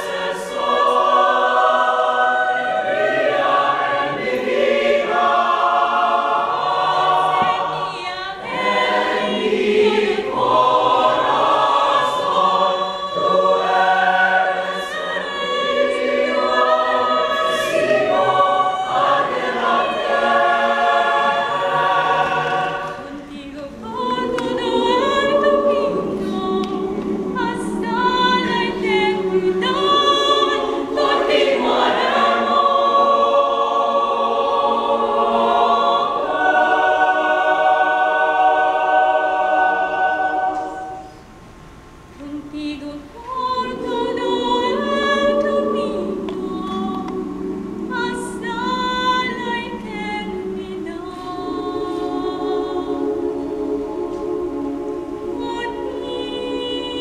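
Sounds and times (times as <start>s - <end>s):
woman singing with vibrato: 0.0s - 41.2s, 42.2s - 57.0s
mixed choir singing: 0.0s - 41.5s, 42.2s - 57.0s.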